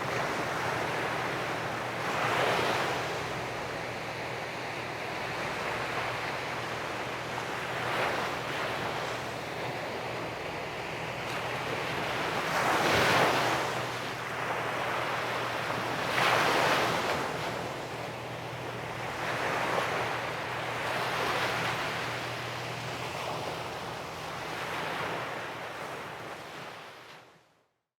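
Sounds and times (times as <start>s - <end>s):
sea waves breaking on shore: 0.0s - 27.4s.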